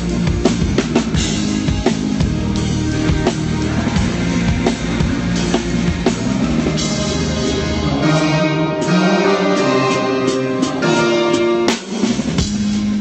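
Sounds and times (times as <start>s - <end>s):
drum kit beat: 0.0s - 13.0s
held guitar chords: 0.0s - 13.0s
live rock band playing: 0.0s - 13.0s.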